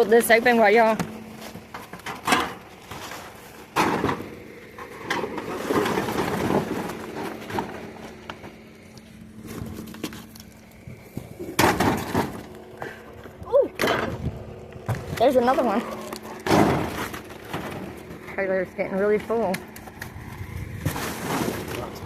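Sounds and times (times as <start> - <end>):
faint steady hum: 0.0 - 22.0
items clattering in dumpster: 0.0 - 22.0.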